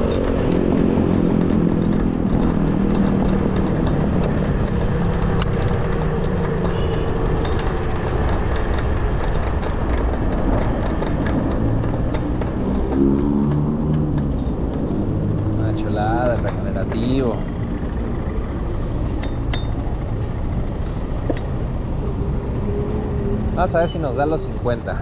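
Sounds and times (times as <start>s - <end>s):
nearby vehicle engine running: 0.0s - 25.0s
street traffic rumble: 0.0s - 25.0s
wind rumble: 0.0s - 25.0s.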